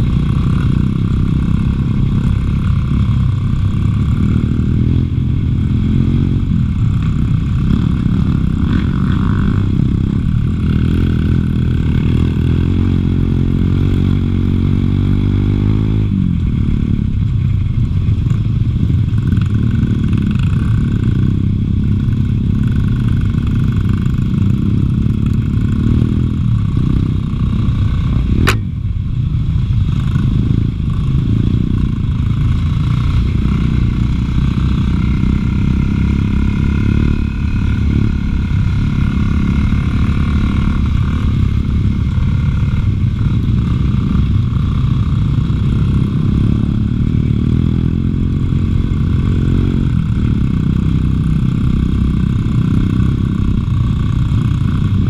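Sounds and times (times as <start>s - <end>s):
dirt bike engine revving: 0.0s - 16.2s, 22.2s - 28.6s, 29.9s - 55.0s.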